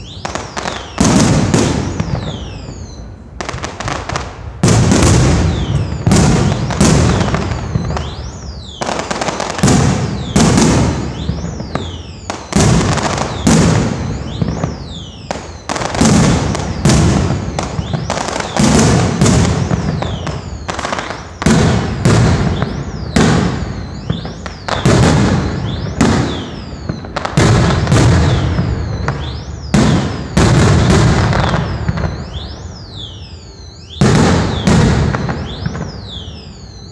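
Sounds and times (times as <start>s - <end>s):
high falling whistles: 0.0s - 3.2s, 5.0s - 36.9s
crackling rumbling tail: 0.0s - 36.9s
fireworks bursting: 0.0s - 36.9s.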